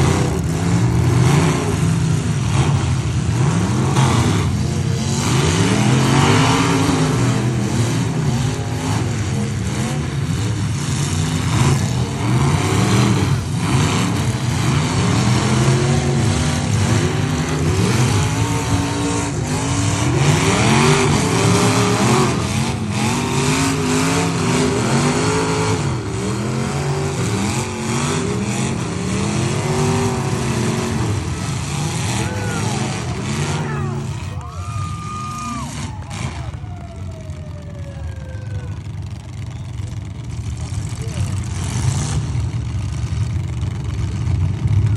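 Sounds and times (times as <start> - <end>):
truck engines revving: 0.0 - 44.9.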